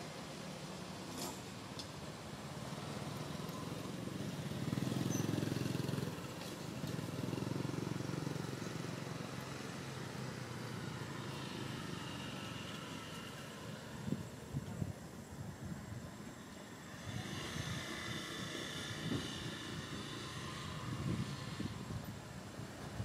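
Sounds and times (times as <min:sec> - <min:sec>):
distant vehicle engine hum: 0:00.0 - 0:23.0.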